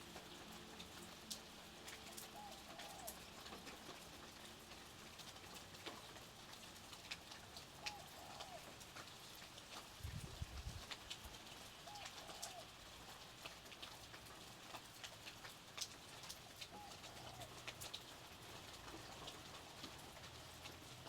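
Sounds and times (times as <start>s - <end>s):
light rain pattering: 0.0s - 21.0s
raindrops ticking: 0.0s - 21.0s.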